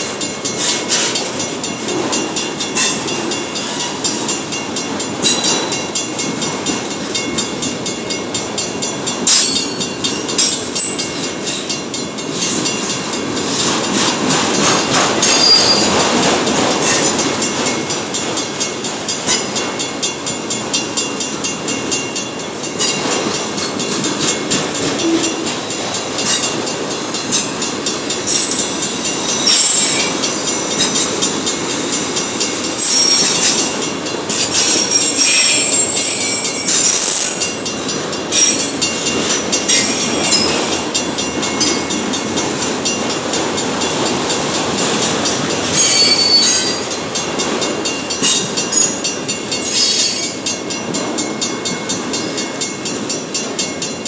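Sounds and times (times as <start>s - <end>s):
steel wheels rumbling on rail: 0.0s - 54.0s
wheels clacking over rail joints: 0.0s - 54.0s.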